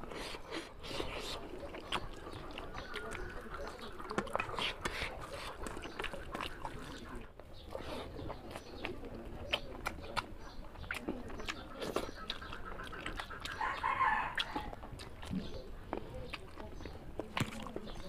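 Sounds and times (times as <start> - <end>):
lip smacking: 0.0 - 18.0
wet chewing: 0.0 - 18.0.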